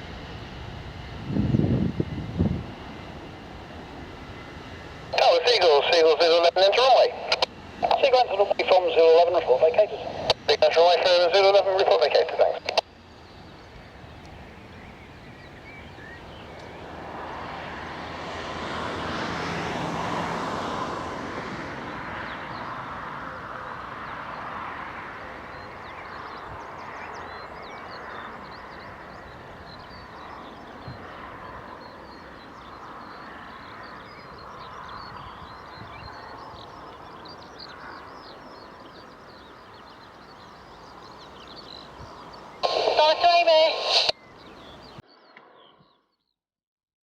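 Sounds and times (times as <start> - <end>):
aircraft passing: 0.0 - 45.7.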